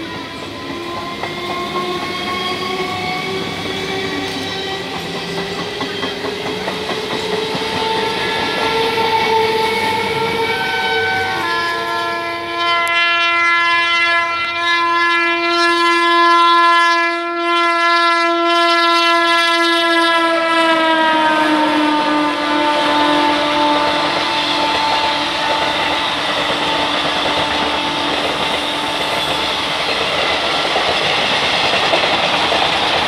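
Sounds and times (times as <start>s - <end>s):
train rumbling over rails: 0.0s - 17.3s, 18.4s - 33.0s
multi-tone train horn: 0.0s - 30.0s.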